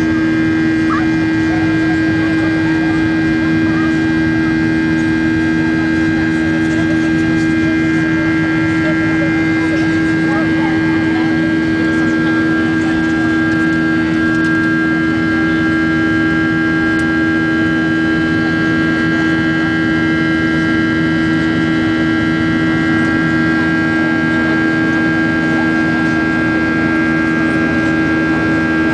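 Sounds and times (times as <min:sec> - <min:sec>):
jet engines droning: 0:00.0 - 0:28.9.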